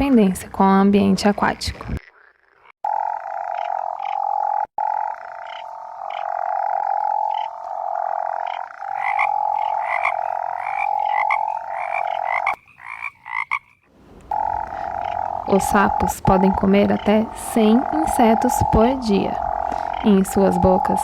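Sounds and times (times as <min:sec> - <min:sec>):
frog pulsed trill: 0:02.0 - 0:13.7, 0:14.3 - 0:21.0
frog short chirps: 0:02.0 - 0:21.0.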